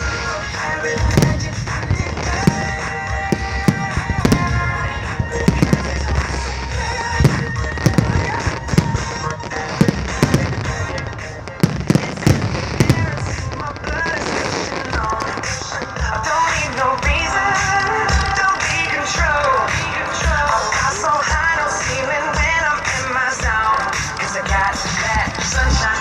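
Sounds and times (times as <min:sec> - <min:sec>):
fireworks bursting: 0:00.0 - 0:26.0
music: 0:00.0 - 0:26.0.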